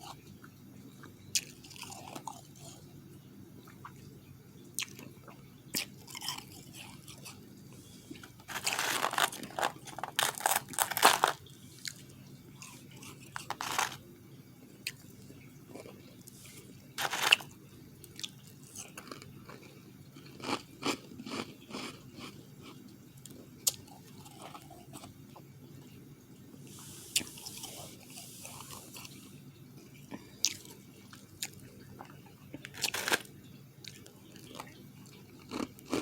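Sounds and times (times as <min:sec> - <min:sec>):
ice being chewed: 0:00.0 - 0:14.0, 0:14.6 - 0:26.0, 0:27.1 - 0:36.0.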